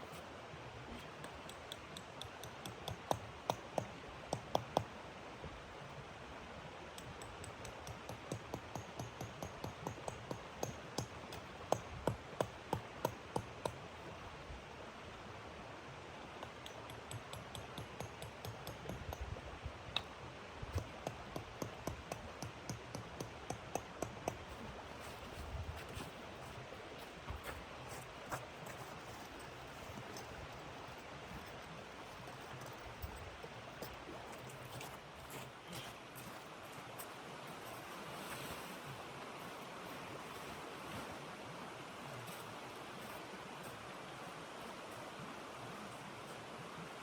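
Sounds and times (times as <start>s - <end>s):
faint steady hiss: 0.0s - 47.0s.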